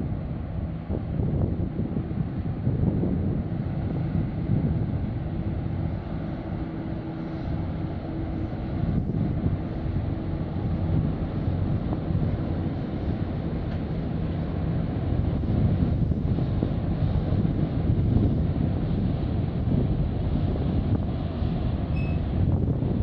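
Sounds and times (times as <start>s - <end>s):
ship engines droning: 0.0s - 23.0s
wind buffeting microphone: 0.0s - 23.0s.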